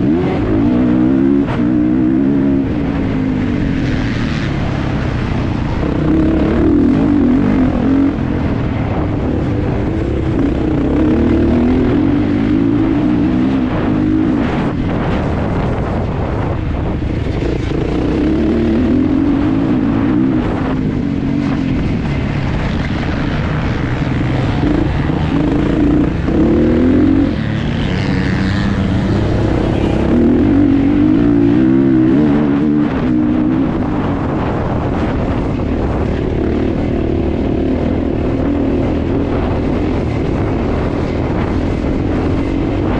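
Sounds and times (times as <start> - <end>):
motocross engine revving: 0.0 - 15.2, 17.2 - 42.9.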